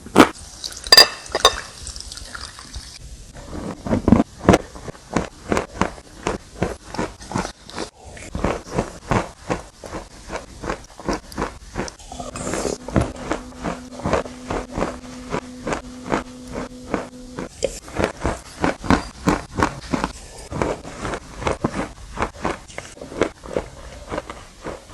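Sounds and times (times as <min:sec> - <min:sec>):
steady low hum: 0:03.0 - 0:24.9
crunchy chewing: 0:03.5 - 0:24.9.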